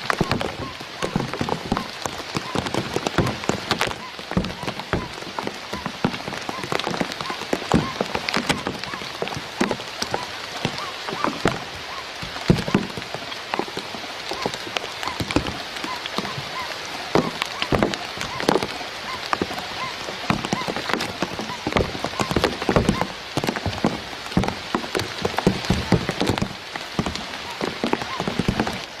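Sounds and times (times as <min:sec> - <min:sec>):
sharp taps and drips: 0:00.0 - 0:29.0.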